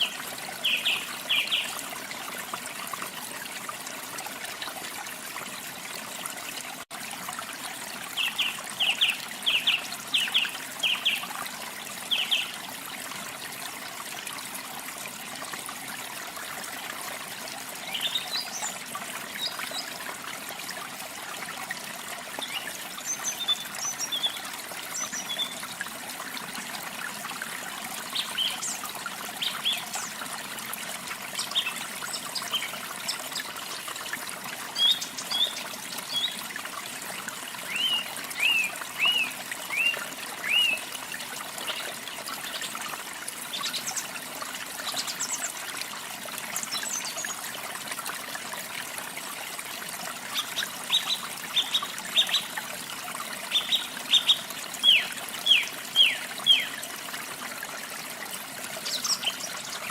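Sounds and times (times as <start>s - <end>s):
water trickling and splashing: 0.0s - 59.9s.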